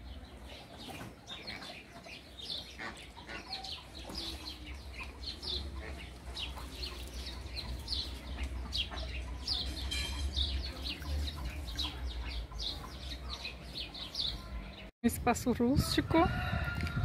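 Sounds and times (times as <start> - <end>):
many birds chirping: 0.0 - 14.9.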